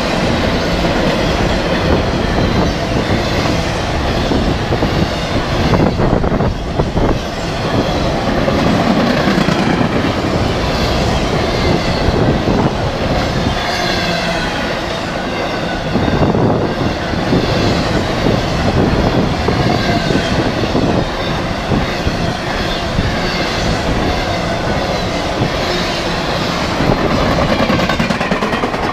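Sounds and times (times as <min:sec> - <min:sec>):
freight train wheels rumbling: 0:00.0 - 0:28.9.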